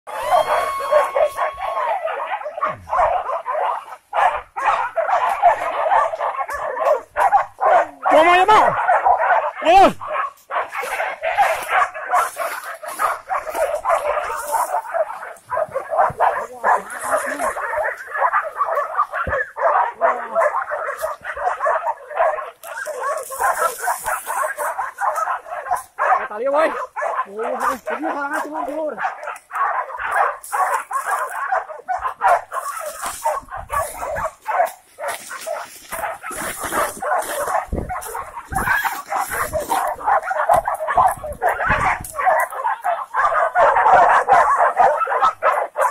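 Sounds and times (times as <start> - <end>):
dogs barking and yelping: 0.1 - 45.9.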